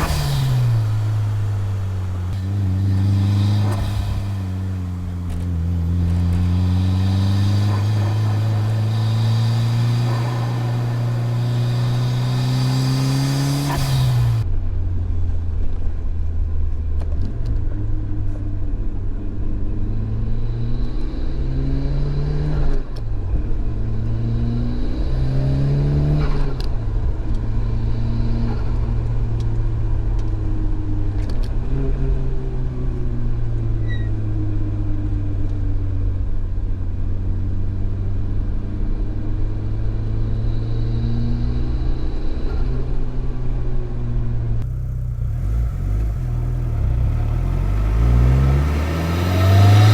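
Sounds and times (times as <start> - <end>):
turbocharged car engine accelerating: 0.0 - 49.9.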